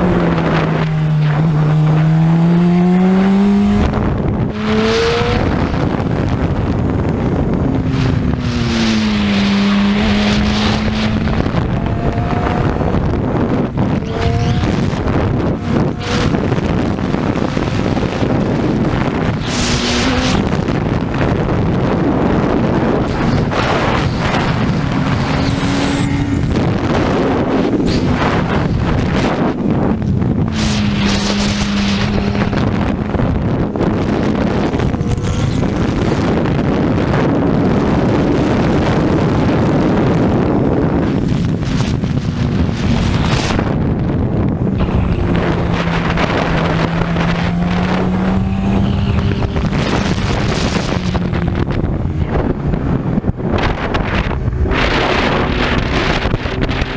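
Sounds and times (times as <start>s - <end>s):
racing motorcycle engine: 0.0s - 56.9s
wind noise on microphone: 0.0s - 56.9s.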